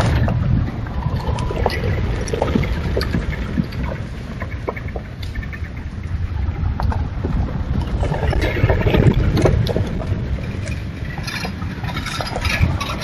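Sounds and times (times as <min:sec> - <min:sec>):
vehicle driving on gravel: 0:00.0 - 0:13.0.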